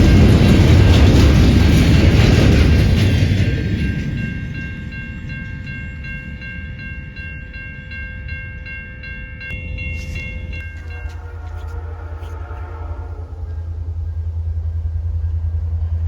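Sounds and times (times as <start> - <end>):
railroad crossing bell ringing: 0.0 - 15.7
train rumbling past: 0.0 - 16.0.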